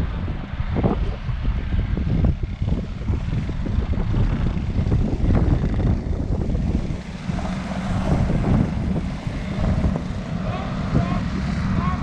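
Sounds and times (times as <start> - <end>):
heavy low rumble: 0.0 - 12.0
traffic on wet road: 0.0 - 12.0
wind buffeting microphone: 0.0 - 12.0.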